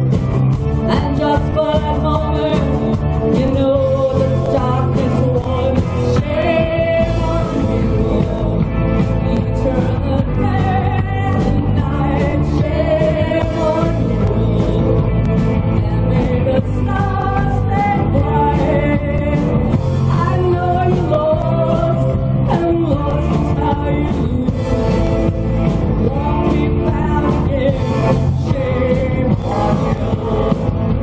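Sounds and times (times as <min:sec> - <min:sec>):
drum kit: 0:00.0 - 0:31.0
electric guitars: 0:00.0 - 0:31.0.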